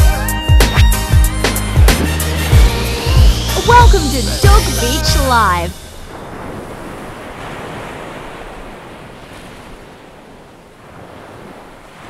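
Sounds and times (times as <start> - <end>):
ocean surf washing up beach: 1.5 - 12.0.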